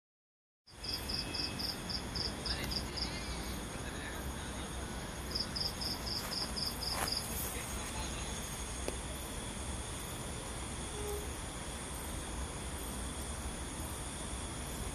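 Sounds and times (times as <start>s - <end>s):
high drone of insects: 0.7s - 14.9s
insect chirping: 0.7s - 14.9s.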